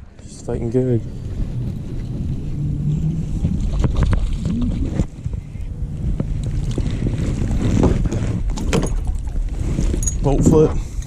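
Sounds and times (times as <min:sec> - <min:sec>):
water sloshing against kayak: 0:00.0 - 0:11.0
wind buffeting microphone: 0:00.0 - 0:11.0.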